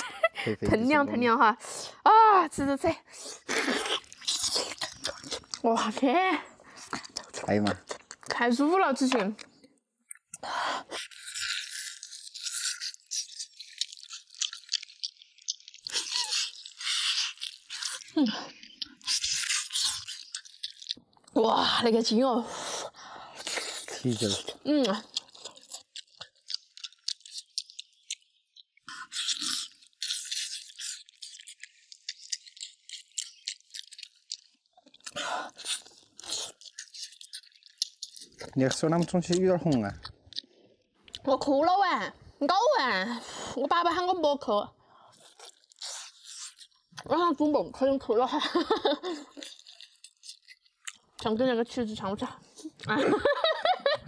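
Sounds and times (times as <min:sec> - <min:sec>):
chewing and gnawing: 0:03.2 - 0:41.7, 0:45.0 - 0:54.0.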